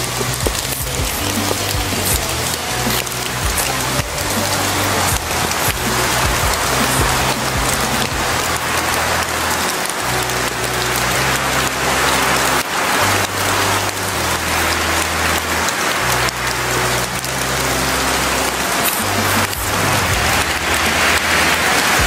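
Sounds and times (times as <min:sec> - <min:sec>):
low synth bass line: 0:00.0 - 0:22.0
steady rain: 0:00.0 - 0:22.0.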